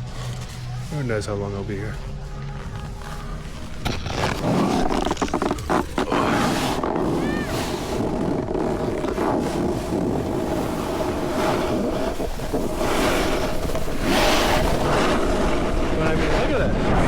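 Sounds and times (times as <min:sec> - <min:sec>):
snowboard edge scraping snow: 0:00.0 - 0:17.0
wind rushing over microphone: 0:03.3 - 0:17.0.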